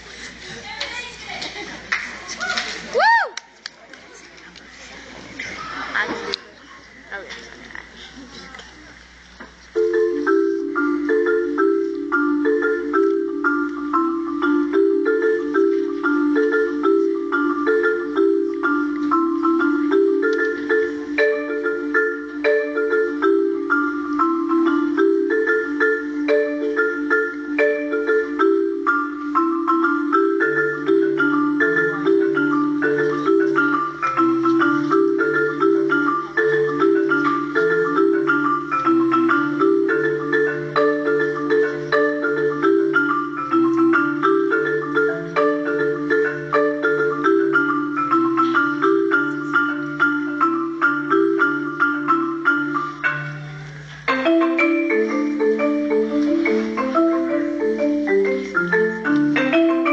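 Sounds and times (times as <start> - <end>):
marimba played with mallets: 5.3 - 59.9.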